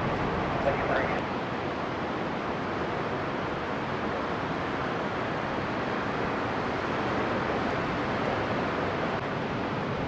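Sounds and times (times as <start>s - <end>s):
ocean surf rushing: 0.0s - 10.0s.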